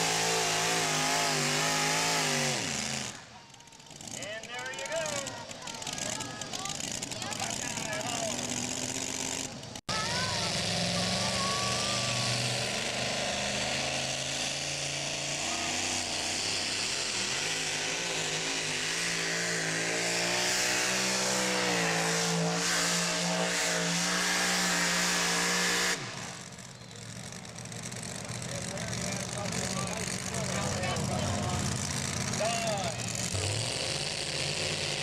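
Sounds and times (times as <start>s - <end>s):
truck engine at high revs: 0.0s - 35.0s.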